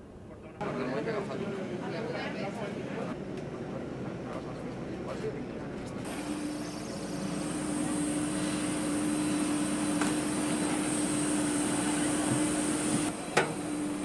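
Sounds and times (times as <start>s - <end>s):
jet engine whine: 0.7s - 14.0s.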